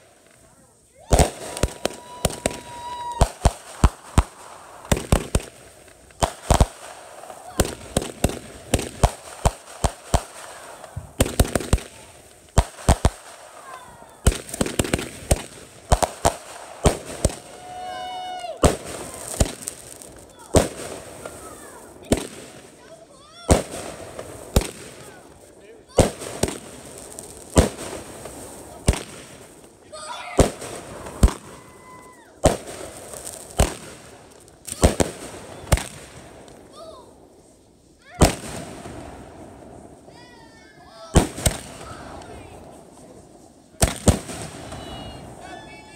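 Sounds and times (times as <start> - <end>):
fireworks bangs and pops: 0.0 - 45.9.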